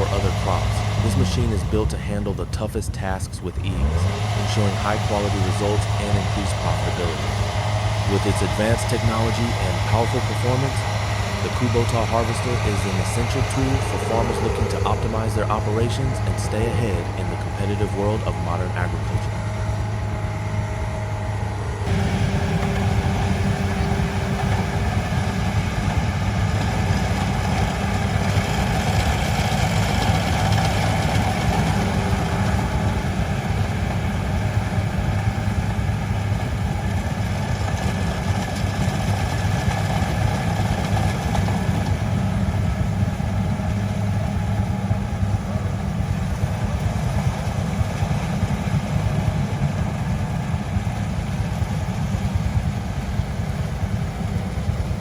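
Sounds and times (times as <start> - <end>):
combine harvester engine running: 0.0 - 55.0.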